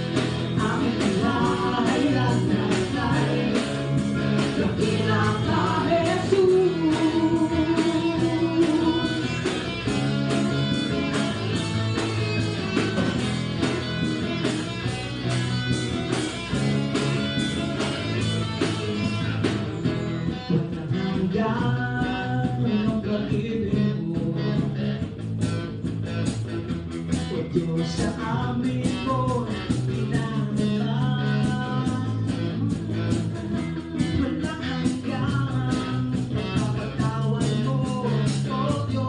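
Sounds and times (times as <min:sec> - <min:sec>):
guitars: 0:00.0 - 0:39.0
steady drum beat: 0:00.0 - 0:39.0.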